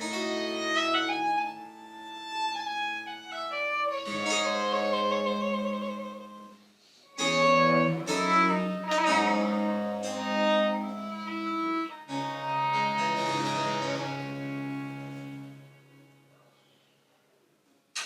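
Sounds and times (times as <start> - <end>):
baroque chamber ensemble playing: 0.0 - 6.5, 7.1 - 15.8.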